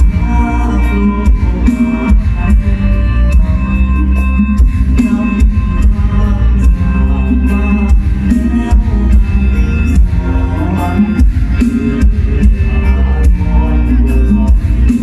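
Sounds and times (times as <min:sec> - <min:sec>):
heavy bass: 0:00.0 - 0:15.0
live band music: 0:00.0 - 0:15.0
steady drum beat: 0:00.0 - 0:15.0.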